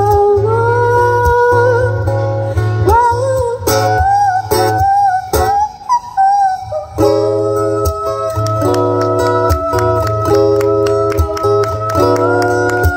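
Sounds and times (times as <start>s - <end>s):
acoustic guitar strumming: 0.0s - 12.9s
woman singing: 0.0s - 12.9s.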